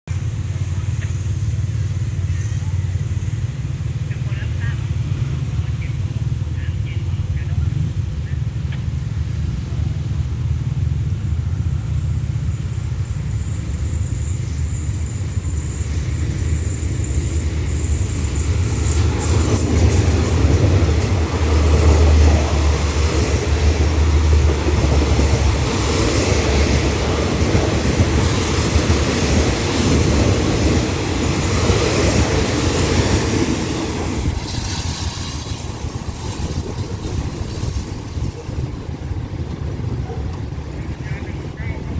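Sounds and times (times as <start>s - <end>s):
locomotive engine rumble: 0.1s - 41.9s
wheels clattering on rails: 0.1s - 41.9s.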